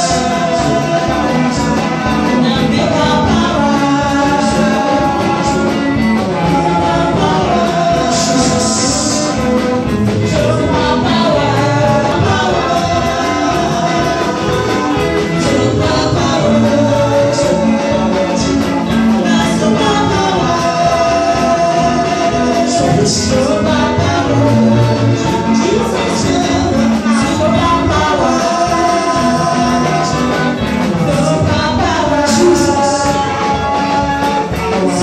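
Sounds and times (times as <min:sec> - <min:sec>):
gospel singing over a band: 0:00.0 - 0:35.0
percussion beat: 0:00.0 - 0:35.0.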